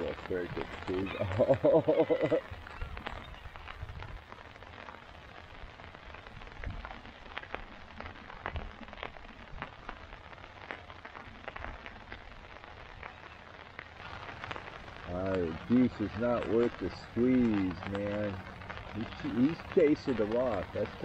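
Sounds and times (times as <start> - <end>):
drops ticking on tarp: 0.0 - 21.0
rain falling on tarp: 0.0 - 21.0.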